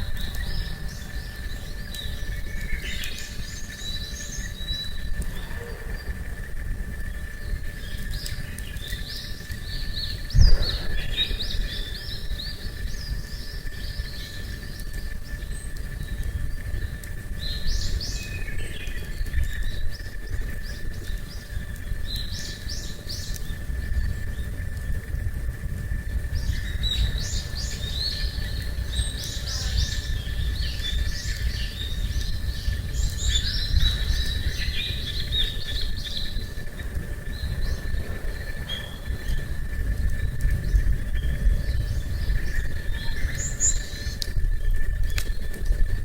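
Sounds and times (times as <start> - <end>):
low outdoor rumble: 0.0 - 46.0
small birds chirping and trilling: 0.0 - 46.0.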